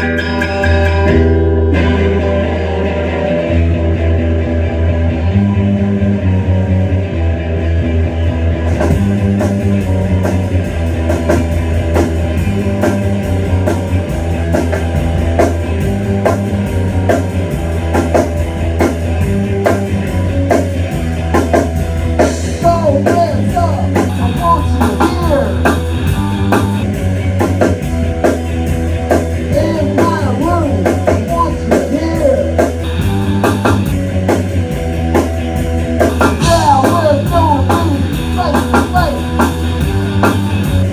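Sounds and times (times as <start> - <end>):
drums and cymbals: 0.0 - 4.2, 7.8 - 40.9
bass guitar: 0.0 - 40.9
electric guitar: 0.0 - 40.9.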